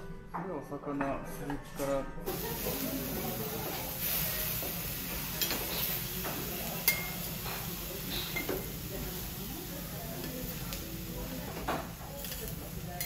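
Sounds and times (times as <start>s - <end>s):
vegetables sizzling on griddle: 2.3s - 13.0s.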